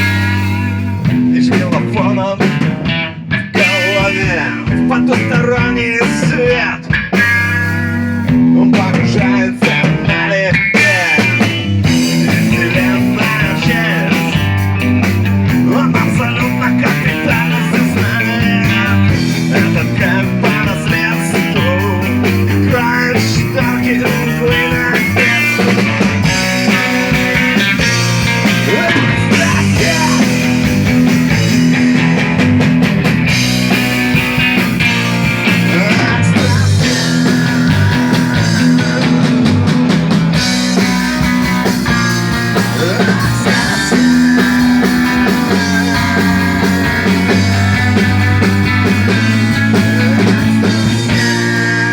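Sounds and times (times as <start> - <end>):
bass line: 0.0 - 51.9
electric guitar: 0.0 - 51.9
rock band playing: 0.0 - 51.9.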